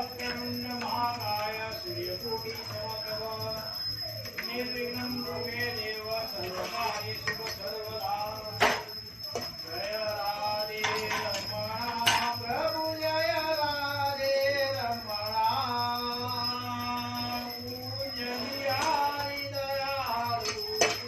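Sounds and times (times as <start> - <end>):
thin high-pitched whine: 0.0 - 21.0.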